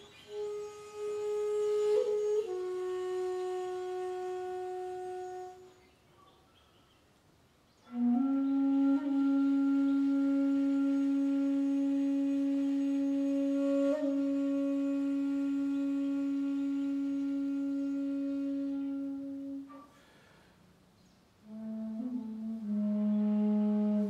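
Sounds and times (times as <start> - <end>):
long wind instrument note: 0.0 - 5.8, 7.8 - 20.0, 21.4 - 24.0.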